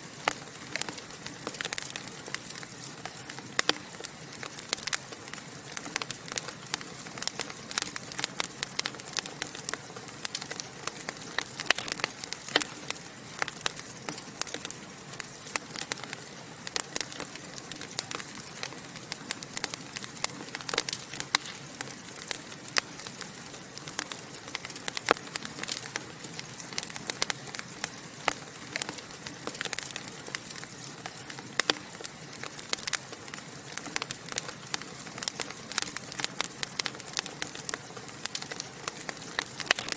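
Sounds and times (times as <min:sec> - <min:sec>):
fire crackling and popping: 0:00.0 - 0:39.9
fire hissing softly: 0:00.0 - 0:39.9.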